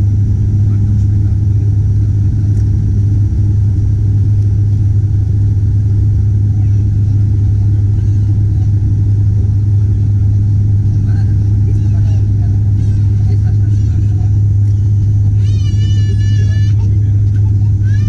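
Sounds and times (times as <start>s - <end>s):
aircraft engine drone in cabin: 0.0s - 18.0s.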